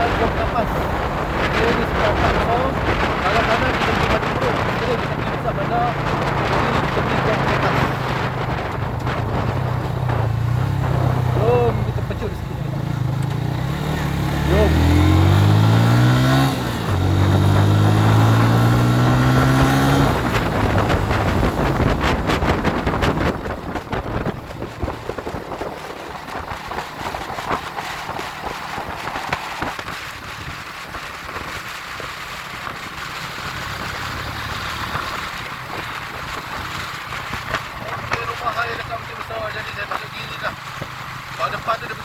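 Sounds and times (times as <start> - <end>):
wind noise on microphone: 0.0 - 41.0
motorcycle engine accelerating: 0.0 - 42.0.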